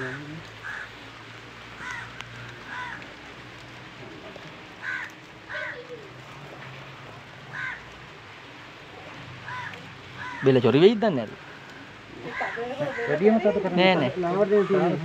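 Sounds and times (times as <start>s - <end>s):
crows cawing: 0.0s - 3.6s, 4.6s - 6.0s, 7.4s - 15.0s.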